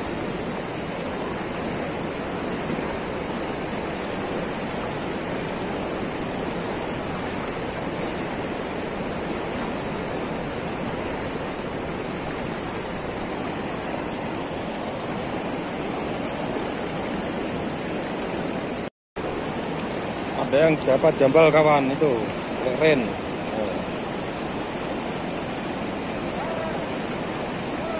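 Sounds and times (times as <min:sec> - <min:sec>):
river water rushing over weir: 0:00.0 - 0:27.9.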